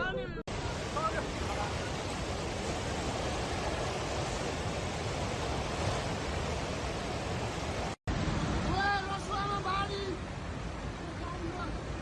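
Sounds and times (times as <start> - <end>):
floodwater rushing: 0.5 - 12.0.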